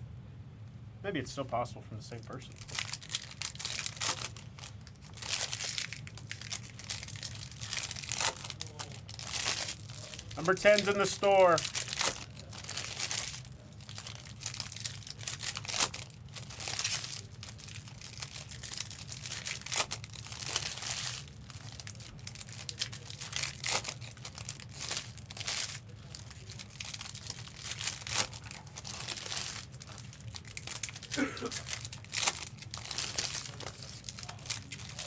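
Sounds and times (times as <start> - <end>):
foil wrappers crinkling and tearing: 2.3 - 35.0.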